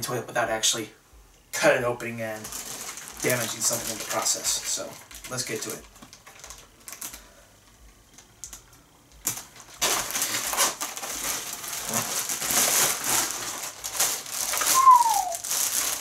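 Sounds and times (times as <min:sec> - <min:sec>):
plastic bag crinkling: 0:02.2 - 0:16.0.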